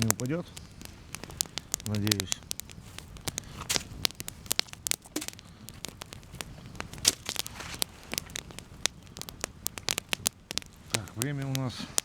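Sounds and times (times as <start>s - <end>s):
campfire crackling: 0.0s - 12.0s
sharp snaps from fire: 0.0s - 12.0s.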